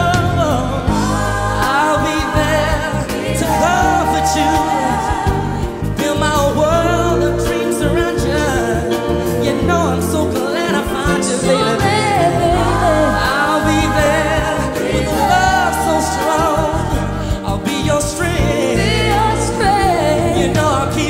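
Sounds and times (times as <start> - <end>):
bass line: 0.0 - 21.0
person singing: 0.0 - 21.0.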